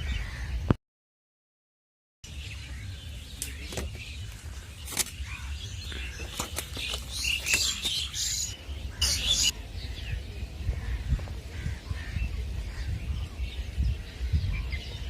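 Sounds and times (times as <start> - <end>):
small birds chirping: 2.2 - 15.0.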